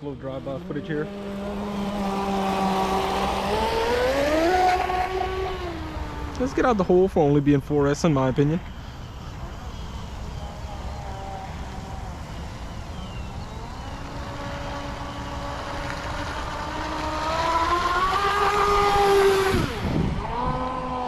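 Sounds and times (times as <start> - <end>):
model boat motor whine passing by: 0.0 - 21.0.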